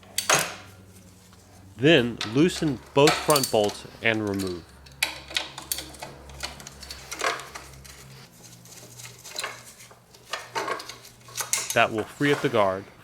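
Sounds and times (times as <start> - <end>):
hand tools clinking on metal bolts: 0.0 - 0.8, 2.0 - 12.8.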